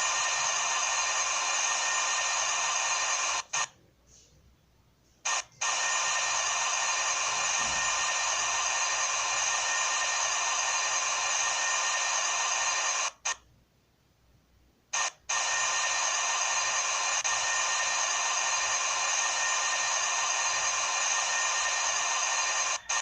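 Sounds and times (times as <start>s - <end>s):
mechanical whine: 0.0s - 3.7s, 5.2s - 13.4s, 15.0s - 23.0s.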